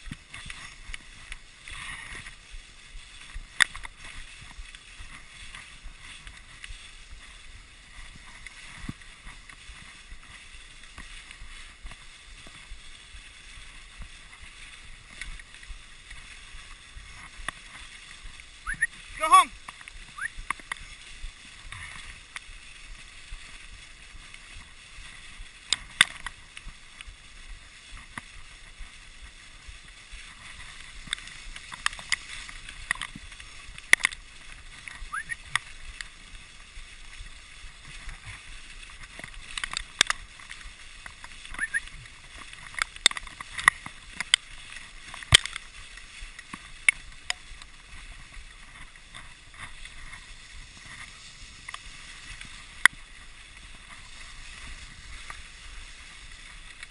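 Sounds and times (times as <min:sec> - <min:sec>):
sled clicks and knocks: 0:00.0 - 0:56.9
sled runners hissing on snow: 0:00.0 - 0:56.9.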